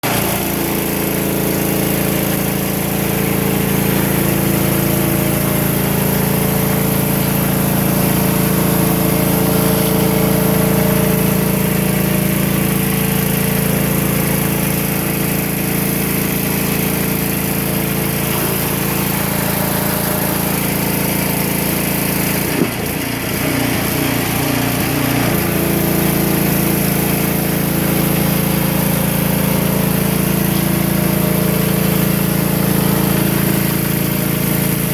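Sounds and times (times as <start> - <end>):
high-pressure water hissing on concrete: 0.0 - 34.9
pressure washer engine running: 0.0 - 34.9.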